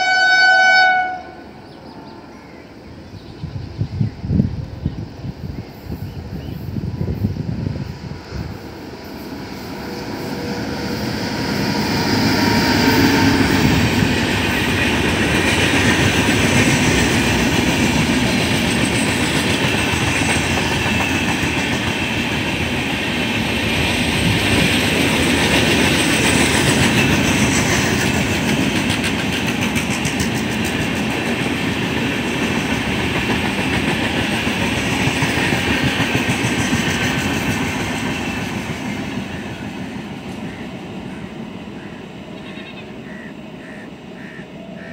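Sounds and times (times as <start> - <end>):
passenger train passing at speed: 0.0 - 44.9.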